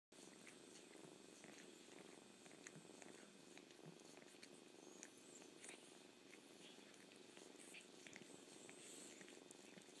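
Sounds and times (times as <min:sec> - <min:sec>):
cat licking: 0:00.2 - 0:10.0
cat purring: 0:00.2 - 0:10.0.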